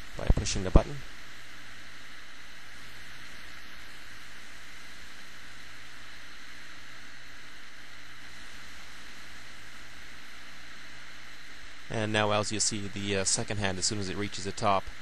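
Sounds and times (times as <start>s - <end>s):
hard drive motor hum: 0.0s - 15.0s.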